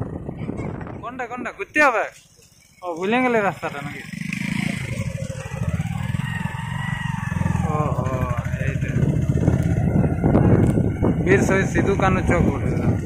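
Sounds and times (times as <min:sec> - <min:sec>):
motorcycle engine running: 0:00.0 - 0:01.4, 0:02.4 - 0:13.0.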